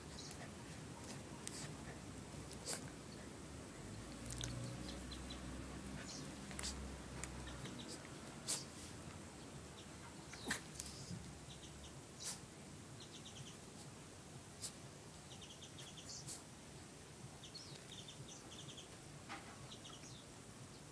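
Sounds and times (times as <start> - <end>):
small birds chirping: 0.0 - 14.0, 14.6 - 20.9.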